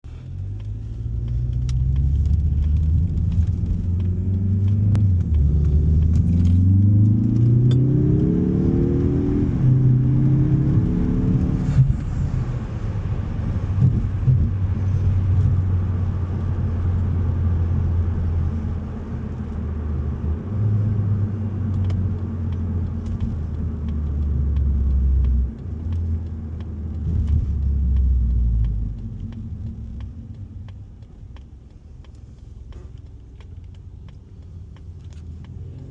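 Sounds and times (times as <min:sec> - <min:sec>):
car engine revving: 0:00.3 - 0:35.9.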